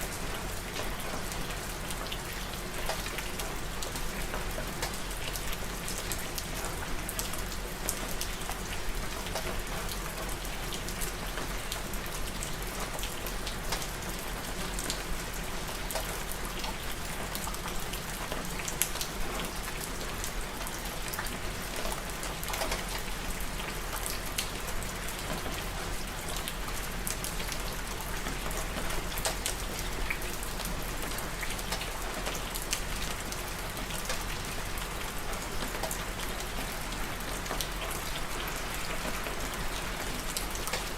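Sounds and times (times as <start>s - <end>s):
raindrops pattering: 0.0s - 40.9s
steady rain: 0.0s - 40.9s.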